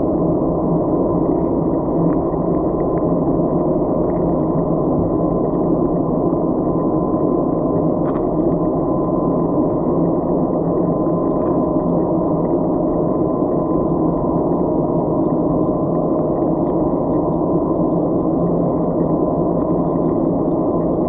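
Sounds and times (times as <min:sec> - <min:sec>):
faint steady hum: 0:00.0 - 0:21.0
muffled underwater wash: 0:00.0 - 0:21.0.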